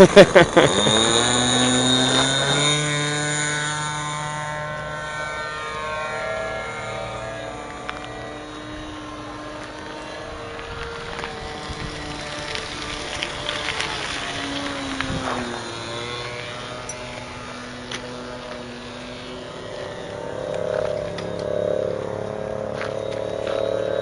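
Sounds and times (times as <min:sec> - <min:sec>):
model aircraft engine: 0:00.0 - 0:24.0.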